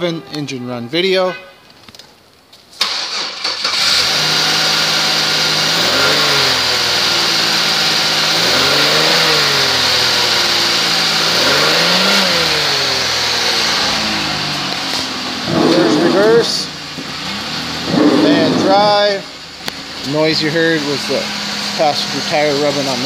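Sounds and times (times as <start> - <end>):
car engine idling and revving: 2.8 - 23.0.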